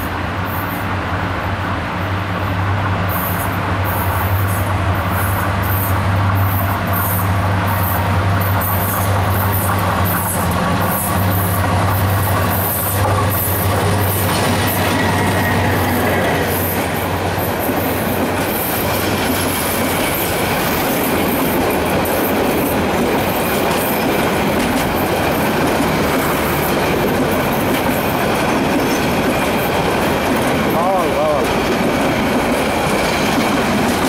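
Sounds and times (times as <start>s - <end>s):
diesel locomotive engine hum: 0.0s - 34.0s
train wheels clattering on rails: 2.8s - 34.0s.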